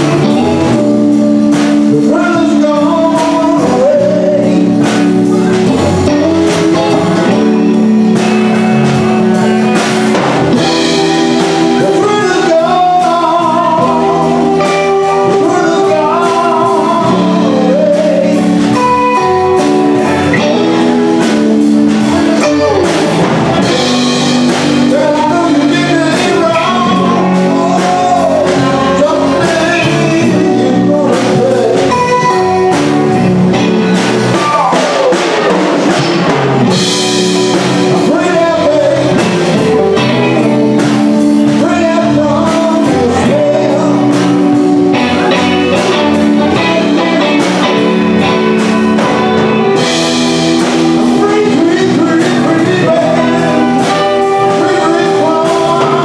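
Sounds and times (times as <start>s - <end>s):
drum kit: 0.0s - 56.0s
guitars: 0.0s - 56.0s
person singing: 0.0s - 56.0s.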